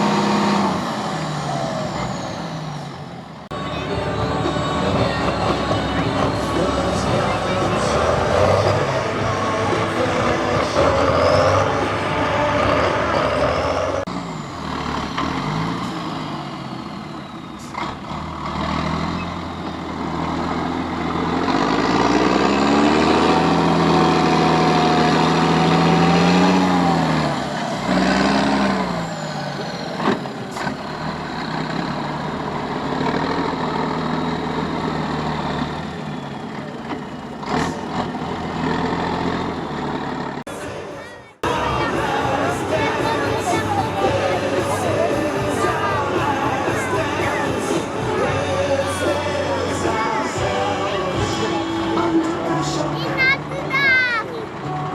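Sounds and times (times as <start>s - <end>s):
truck diesel engine revving: 0.0s - 54.9s.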